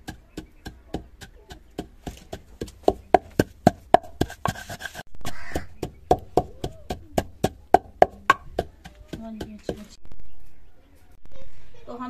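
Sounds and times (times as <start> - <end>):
pestle pounding in a mortar: 0.0 - 10.0.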